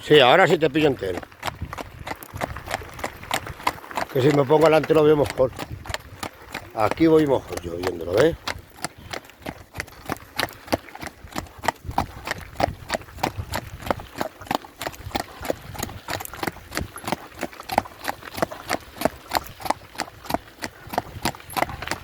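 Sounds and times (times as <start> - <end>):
horse hooves clip-clopping: 0.0 - 22.0.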